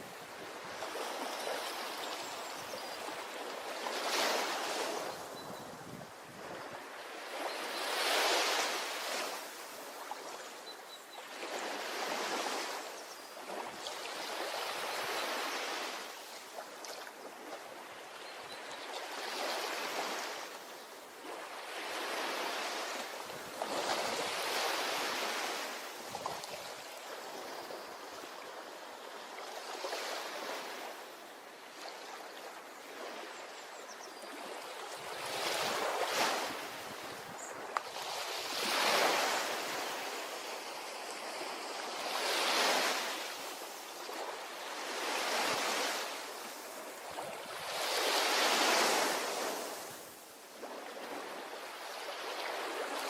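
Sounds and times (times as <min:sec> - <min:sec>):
small waves breaking on beach: 0:00.0 - 0:53.0.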